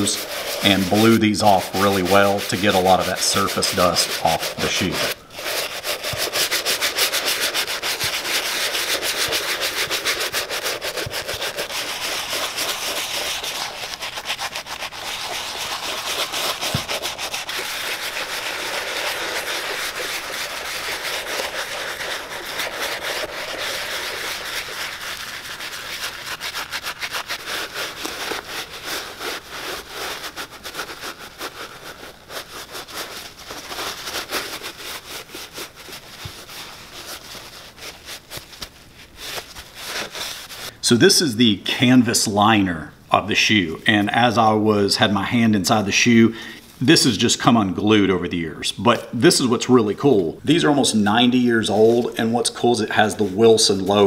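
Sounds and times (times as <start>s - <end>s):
brush scrubbing leather: 0.0s - 40.8s, 48.9s - 54.0s.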